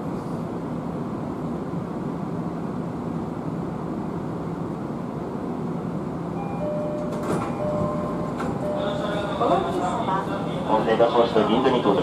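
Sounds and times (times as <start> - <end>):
train car hum and rumble: 0.0 - 12.0.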